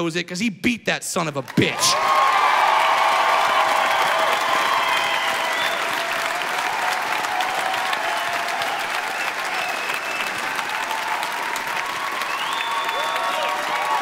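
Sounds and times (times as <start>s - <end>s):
audience applauding: 1.5s - 14.0s.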